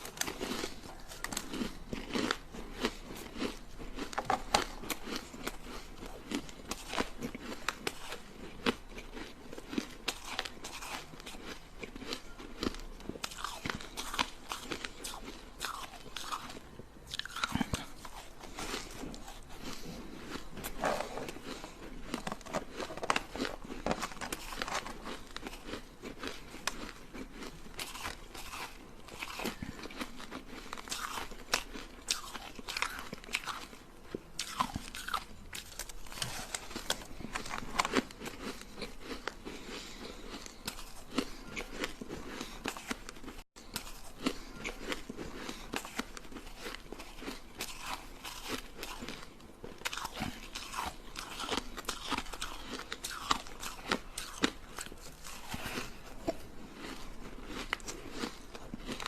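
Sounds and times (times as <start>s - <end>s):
ice crunching between teeth: 0.0s - 59.0s.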